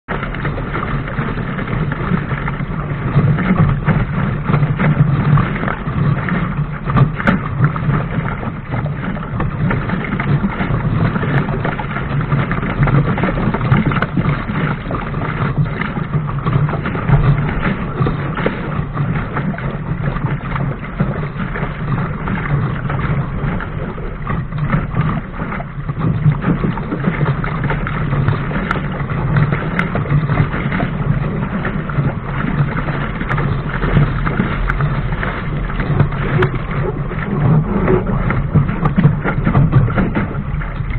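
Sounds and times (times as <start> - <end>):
water rushing along boat hull: 0.0 - 40.9
wind noise on microphone: 0.0 - 40.9.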